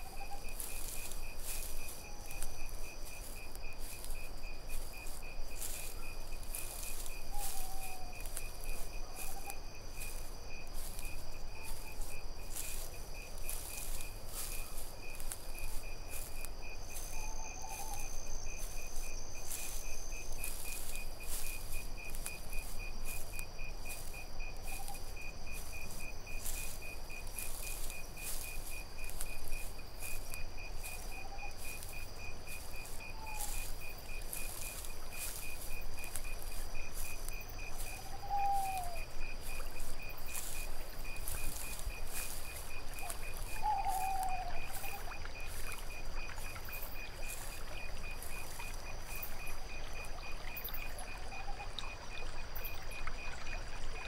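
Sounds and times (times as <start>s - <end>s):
crickets chirping: 0.0s - 54.0s
high insect trill: 0.0s - 54.0s.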